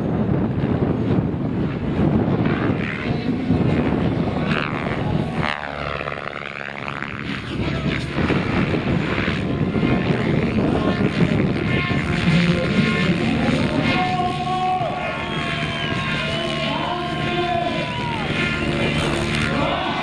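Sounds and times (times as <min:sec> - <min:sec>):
rc helicopter rotor and motor: 0:00.0 - 0:20.0
wind noise on microphone: 0:00.0 - 0:20.0.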